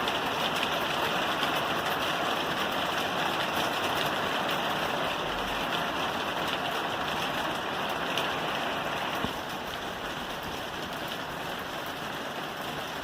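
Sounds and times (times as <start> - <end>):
rain on a roof: 0.0 - 13.0.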